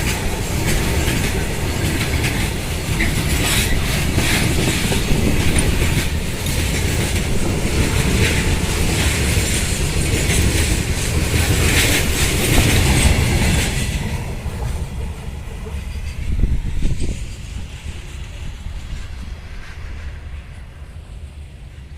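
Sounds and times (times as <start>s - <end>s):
wheels clattering over rail joints: 0.0s - 17.8s
train passing with loud rumble: 0.0s - 21.9s.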